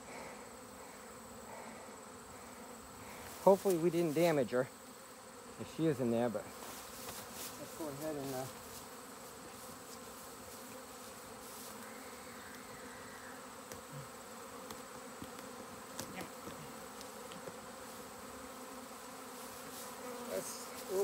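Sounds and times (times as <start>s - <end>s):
bees humming in flight: 0.0s - 21.0s.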